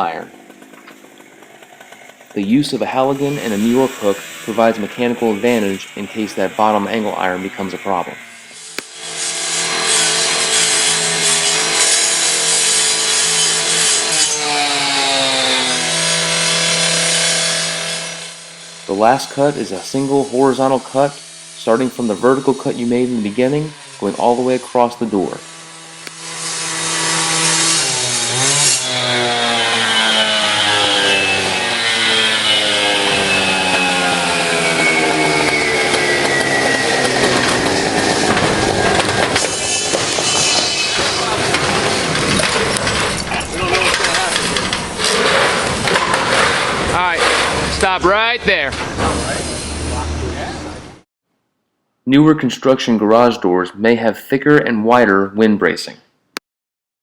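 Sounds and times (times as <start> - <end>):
cut-off saw cutting sheet metal: 1.6 - 51.0.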